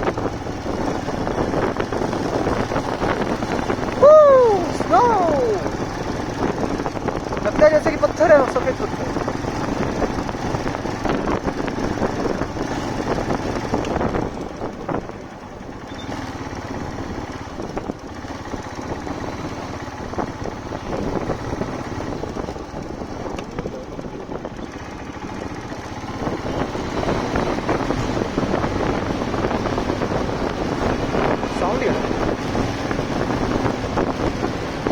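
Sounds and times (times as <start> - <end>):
motorcycle engine running: 0.0 - 34.9
road and wind noise: 0.0 - 34.9.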